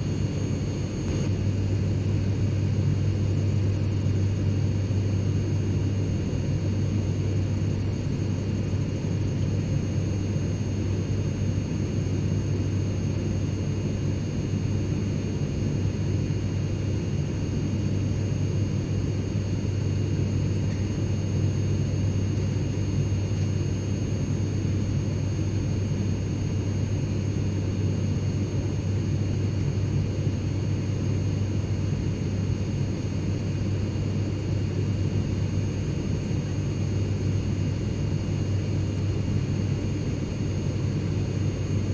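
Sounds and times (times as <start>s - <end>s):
engine and airflow rumble: 0.0s - 41.9s.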